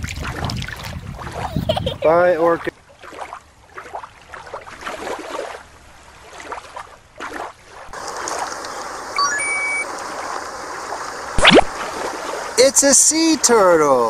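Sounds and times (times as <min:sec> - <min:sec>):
creek water trickling: 0:00.0 - 0:14.0.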